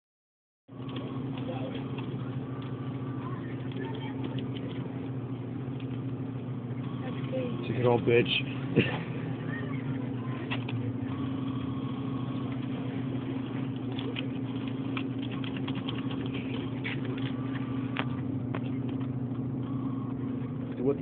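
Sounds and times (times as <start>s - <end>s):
vending machine hum: 0.7s - 21.0s.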